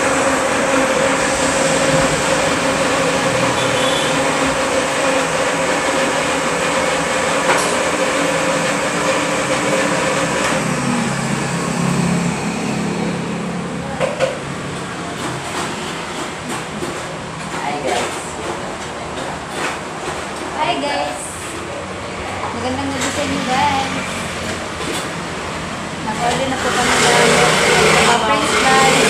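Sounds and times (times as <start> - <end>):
mechanical rushing noise: 0.0 - 17.6, 21.2 - 29.0.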